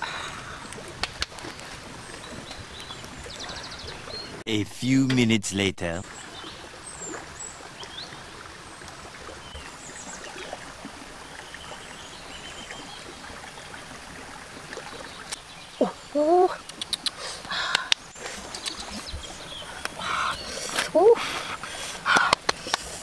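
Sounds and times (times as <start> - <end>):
stream water flowing: 0.0 - 23.0.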